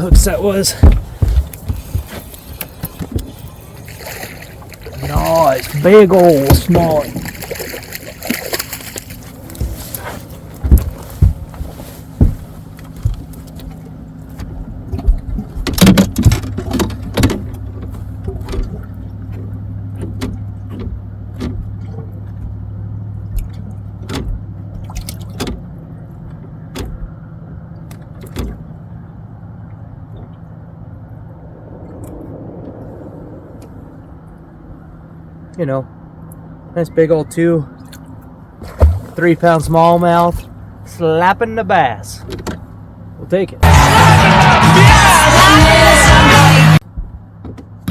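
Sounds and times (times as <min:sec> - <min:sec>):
boat motor humming: 0:00.0 - 0:47.9.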